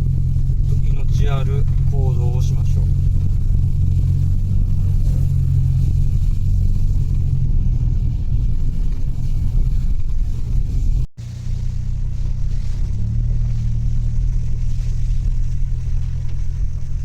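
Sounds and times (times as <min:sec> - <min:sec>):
engine and road noise in car cabin: 0:00.0 - 0:17.0.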